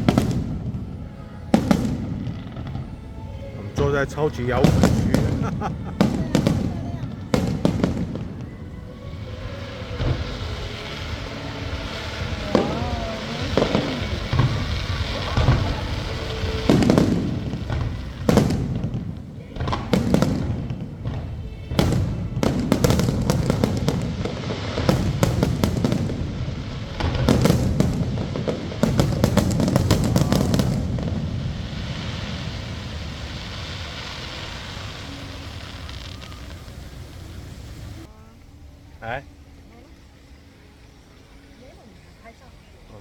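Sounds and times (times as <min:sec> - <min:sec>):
fireworks bangs: 0:00.0 - 0:43.0
fireworks crackling: 0:00.0 - 0:43.0.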